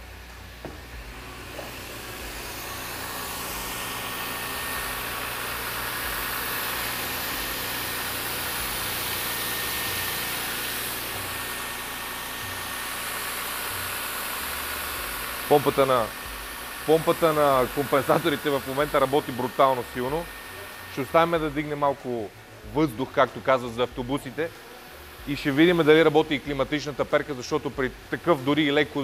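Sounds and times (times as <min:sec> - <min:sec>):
car engine running: 0:00.0 - 0:29.0
loud pump running: 0:00.0 - 0:29.0.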